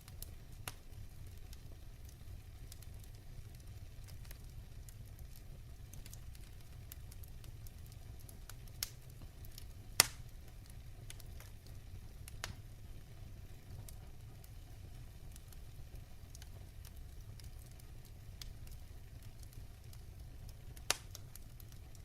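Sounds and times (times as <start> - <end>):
fire pops: 0.0 - 22.0
wood fire crackling: 0.0 - 22.0.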